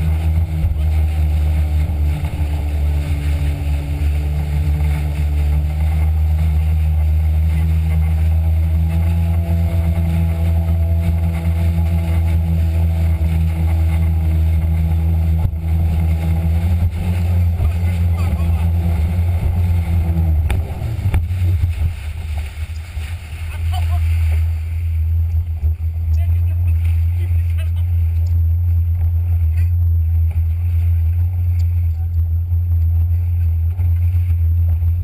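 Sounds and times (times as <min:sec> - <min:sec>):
jet ski engine droning: 0:00.0 - 0:35.0
water rushing and spraying: 0:00.0 - 0:35.0.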